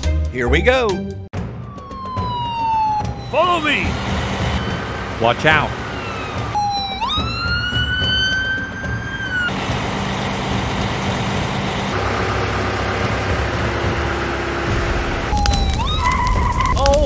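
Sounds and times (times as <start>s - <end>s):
fire truck siren winding up: 1.7s - 12.0s, 13.3s - 16.9s
vehicle engine noise: 1.9s - 17.0s.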